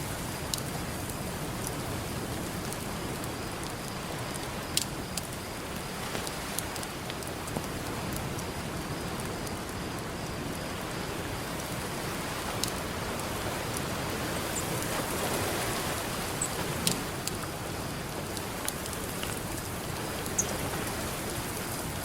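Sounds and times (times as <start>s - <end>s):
campfire crackling and popping: 0.1s - 22.0s.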